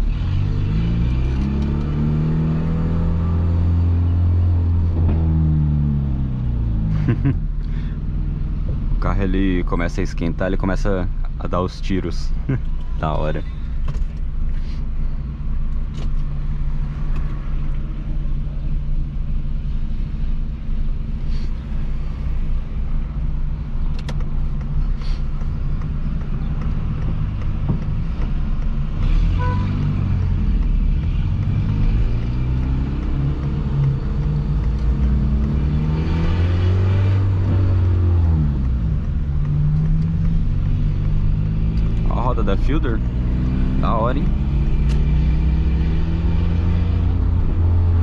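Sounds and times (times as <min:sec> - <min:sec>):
car engine droning and revving: 0:00.0 - 0:48.0.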